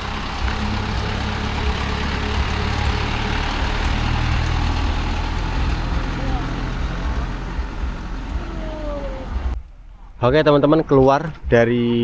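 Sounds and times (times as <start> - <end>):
bus engine rumbling: 0.0 - 10.1.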